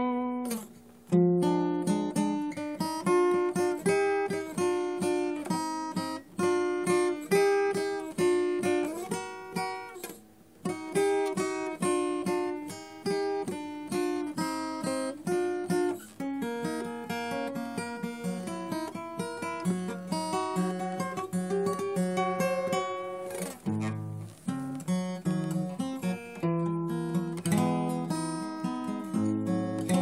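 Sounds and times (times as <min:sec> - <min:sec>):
acoustic guitar melody: 0:00.0 - 0:30.0.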